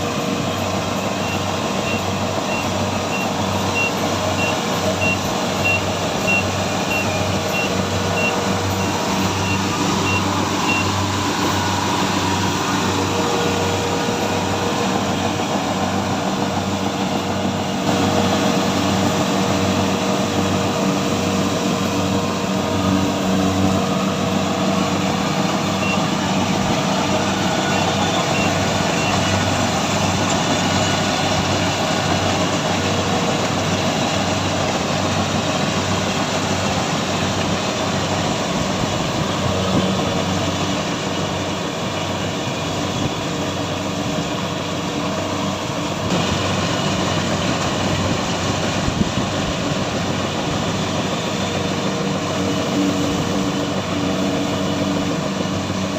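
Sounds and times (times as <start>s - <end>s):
harvester engine throbbing: 0.0s - 55.9s.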